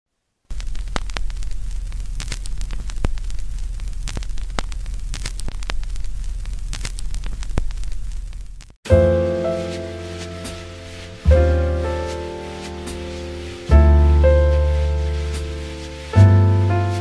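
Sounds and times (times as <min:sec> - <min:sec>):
vinyl record hiss and crackles: 0:00.1 - 0:17.0.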